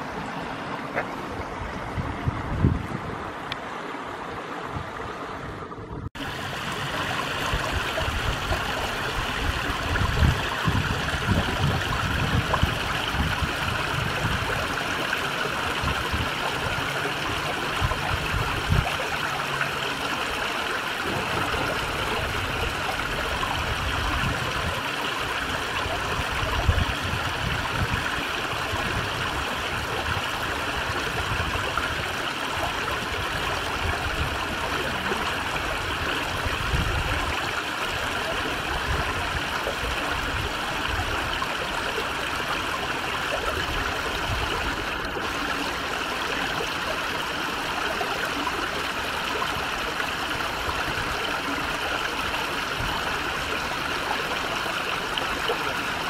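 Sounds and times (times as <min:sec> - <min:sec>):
water babbling over stones: 0:00.0 - 0:56.0.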